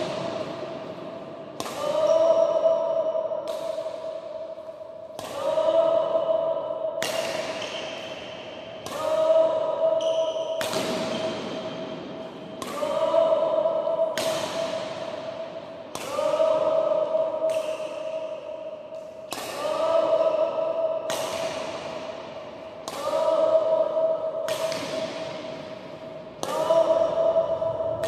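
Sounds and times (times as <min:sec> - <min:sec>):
racket hitting shuttlecock: 0:00.0 - 0:02.4, 0:03.4 - 0:05.9, 0:06.6 - 0:13.2, 0:14.0 - 0:28.0.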